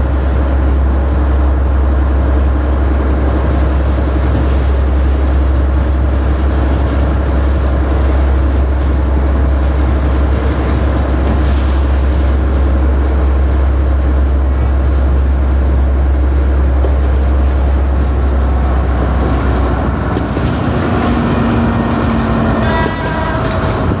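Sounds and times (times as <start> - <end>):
deep drone: 0.0 - 24.0
train rumble and clatter: 0.0 - 24.0.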